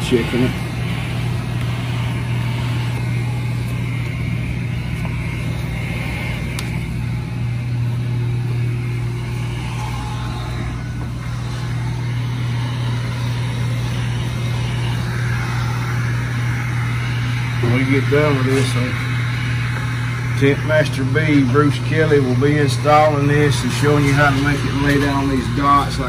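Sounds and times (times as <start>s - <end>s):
heat gun running: 0.0s - 26.0s.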